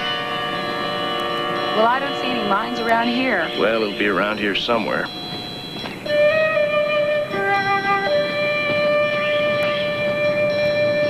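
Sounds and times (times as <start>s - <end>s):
dramatic sustained orchestral chords: 0.0s - 11.0s.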